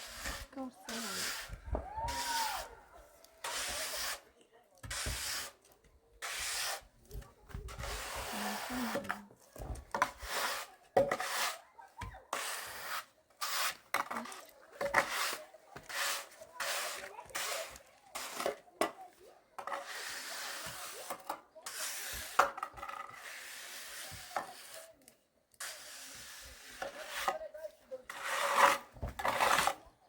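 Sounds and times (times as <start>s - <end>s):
hand tool scraping stone: 0.0s - 2.6s, 3.4s - 19.0s, 19.6s - 24.9s, 25.6s - 27.5s, 28.1s - 29.9s.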